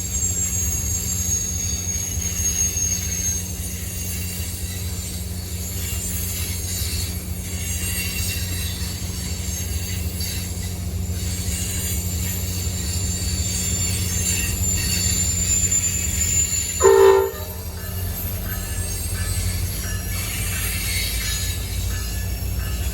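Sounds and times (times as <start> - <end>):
wheel squeal: 0.0 - 22.8
train rumbling past: 0.0 - 22.9.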